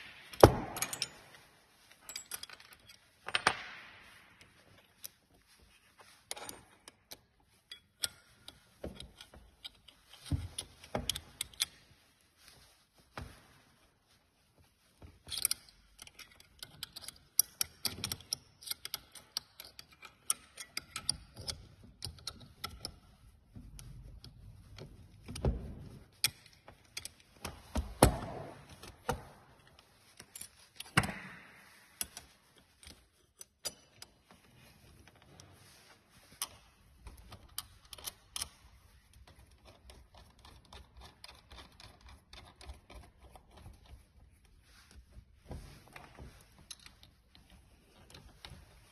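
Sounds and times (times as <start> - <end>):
clinking of hand tools and metal parts: 0.0 - 11.9, 15.0 - 48.9.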